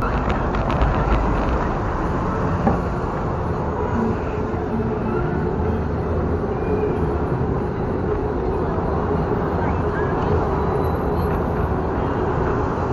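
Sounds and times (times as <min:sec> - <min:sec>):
street traffic: 0:00.0 - 0:12.9
tyres rumbling on paving: 0:00.0 - 0:12.9.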